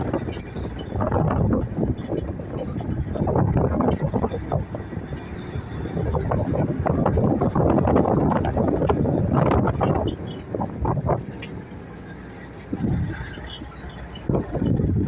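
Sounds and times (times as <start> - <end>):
wind on microphone: 0.0 - 11.9, 12.5 - 15.0
truck engine inside cab: 0.0 - 15.0.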